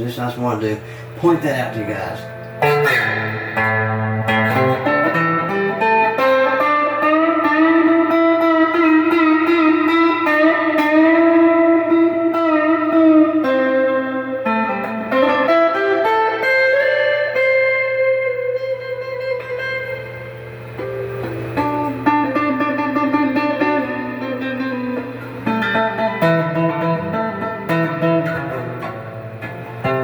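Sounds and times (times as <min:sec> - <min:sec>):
electric guitar melody: 0:00.9 - 0:30.0.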